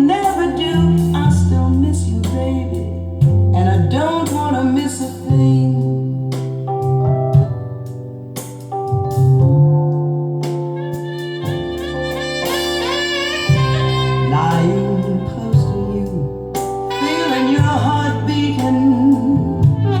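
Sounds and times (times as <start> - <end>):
slow pop ballad over loudspeakers: 0.0 - 20.0.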